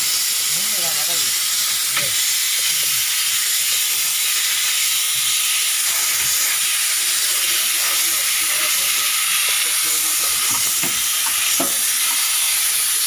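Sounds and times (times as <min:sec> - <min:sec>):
sprayer hissing: 0:00.0 - 0:13.0.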